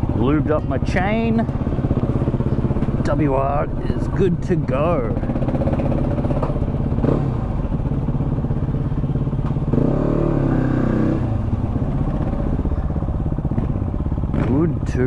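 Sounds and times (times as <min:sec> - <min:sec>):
dirt bike engine idling: 0:00.0 - 0:15.0
second engine: 0:00.0 - 0:15.0.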